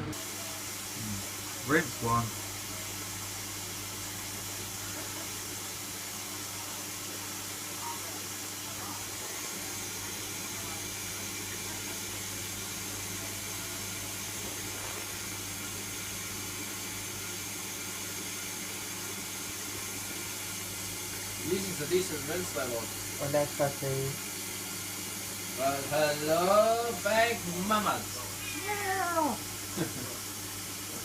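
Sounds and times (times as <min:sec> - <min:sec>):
water running into washing machine: 0:00.0 - 0:31.0.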